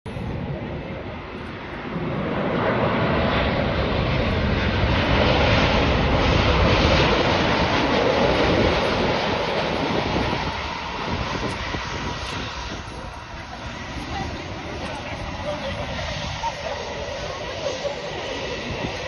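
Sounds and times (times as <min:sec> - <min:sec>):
jet airliner passing: 0:00.1 - 0:19.0.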